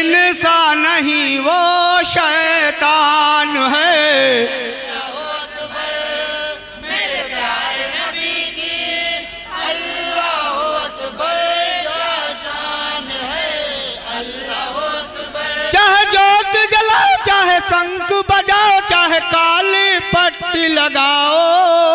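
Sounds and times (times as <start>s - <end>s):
man chanting through loudspeakers: 0.0s - 6.8s, 10.1s - 21.9s.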